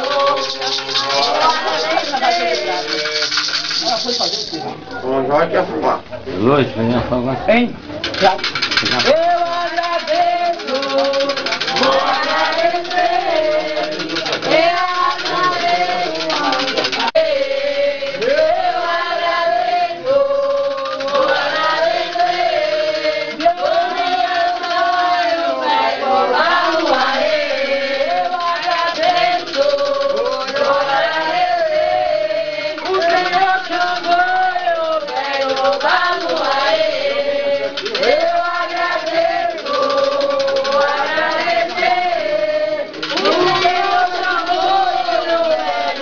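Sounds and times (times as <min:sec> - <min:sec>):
group singing a chant: 0:00.0 - 0:04.1, 0:08.8 - 0:46.0.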